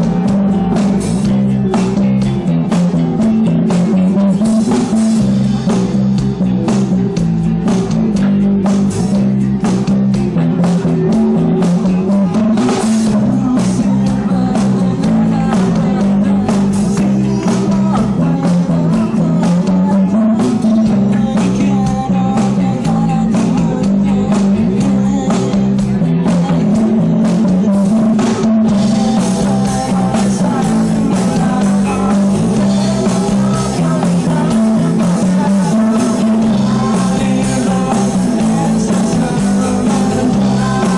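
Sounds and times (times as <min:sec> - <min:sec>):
man singing: 0:00.0 - 0:06.8, 0:09.0 - 0:40.9
bass guitar: 0:00.0 - 0:40.9
drum kit: 0:00.0 - 0:40.9
electric guitars: 0:00.0 - 0:40.9.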